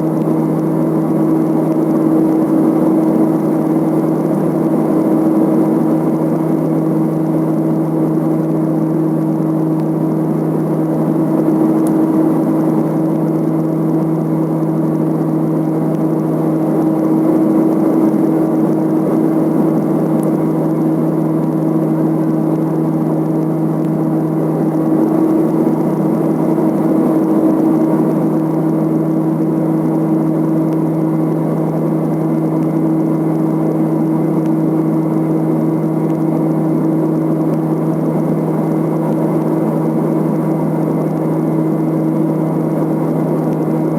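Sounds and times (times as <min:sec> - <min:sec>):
turboprop engines droning: 0:00.0 - 0:43.9.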